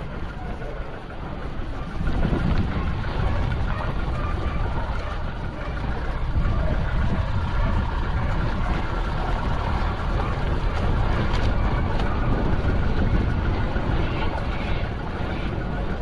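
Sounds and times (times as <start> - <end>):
truck engine rumble: 0.0 - 16.0
tyres on dirt road: 0.0 - 16.0
wind noise: 0.0 - 16.0.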